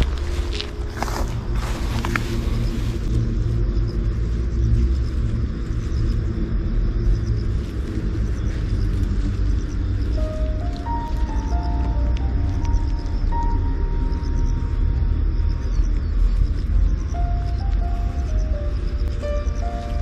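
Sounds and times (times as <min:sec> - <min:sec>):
background music: 0:00.0 - 0:20.0
leaves and grass rustling: 0:00.0 - 0:20.0
low rumble: 0:00.0 - 0:20.0.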